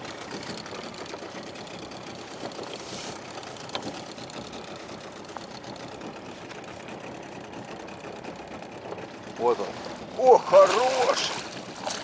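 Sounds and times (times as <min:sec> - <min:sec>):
small boat motor running: 0:00.0 - 0:12.0.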